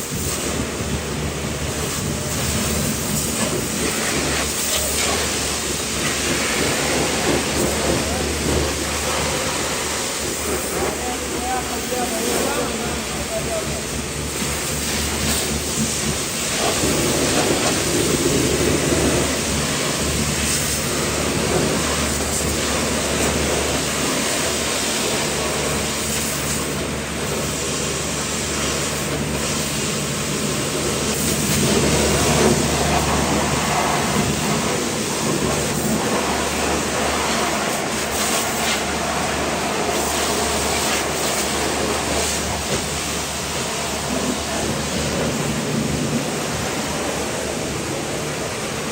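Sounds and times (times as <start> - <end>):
pressure washer pump humming: 0.0 - 48.9
water spray hissing on car: 0.0 - 48.9.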